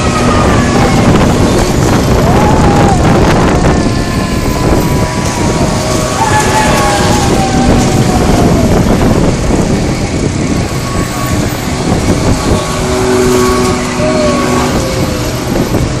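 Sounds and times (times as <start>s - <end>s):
fairground ride mechanical rumble: 0.0s - 16.0s.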